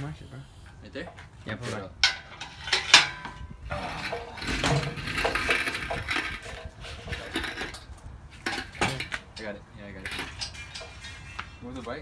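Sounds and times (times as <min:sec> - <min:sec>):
metal clinking and scraping: 0:01.2 - 0:12.0.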